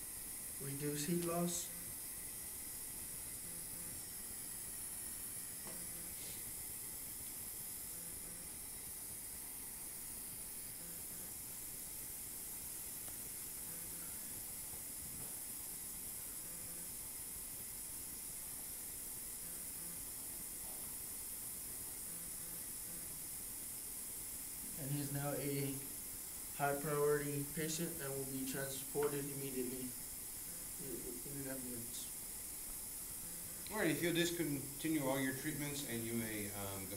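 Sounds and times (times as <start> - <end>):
steady hiss: 0.0 - 36.9.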